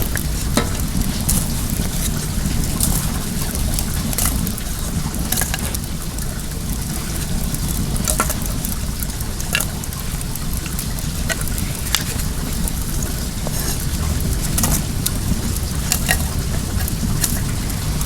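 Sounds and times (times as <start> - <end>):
flowing water: 0.0 - 18.0
wood fire crackling: 0.0 - 18.0.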